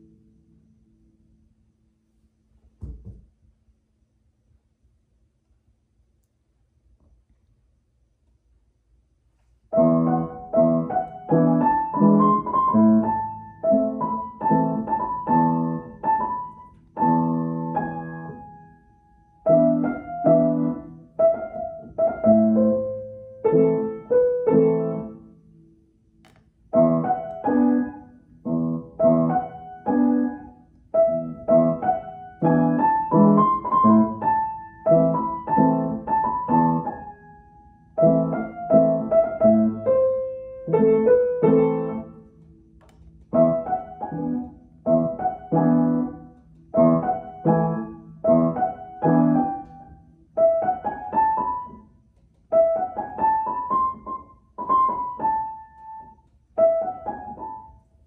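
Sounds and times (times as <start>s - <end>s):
upright piano playing: 9.7s - 25.8s, 26.7s - 58.0s.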